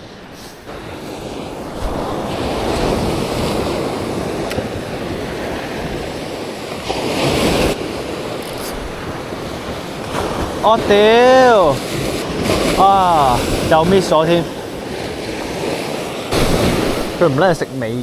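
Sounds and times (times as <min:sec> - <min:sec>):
wind buffeting microphone: 0:00.0 - 0:17.6
ocean surf breaking on beach: 0:00.0 - 0:18.0.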